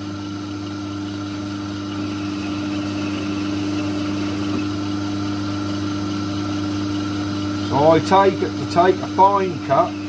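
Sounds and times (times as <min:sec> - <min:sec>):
lathe motor hum and whine: 0:00.0 - 0:10.0.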